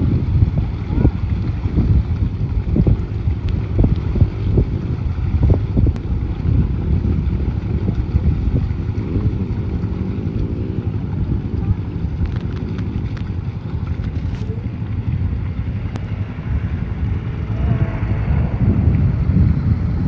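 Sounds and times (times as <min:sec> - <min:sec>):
off-road vehicle engine: 0:00.0 - 0:20.0
wind buffeting microphone: 0:00.0 - 0:20.0.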